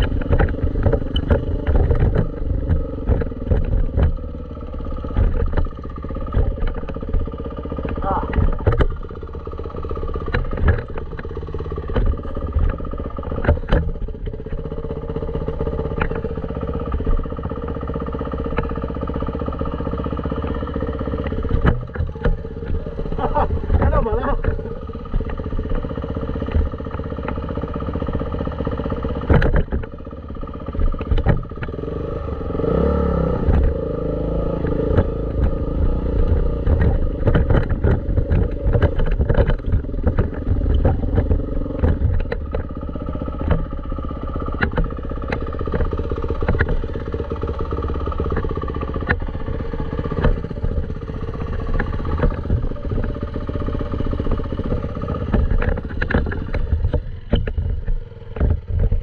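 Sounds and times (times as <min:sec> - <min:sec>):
dirt bike engine running: 0:00.0 - 0:59.0
sharp knocks and clatter: 0:00.0 - 0:59.0.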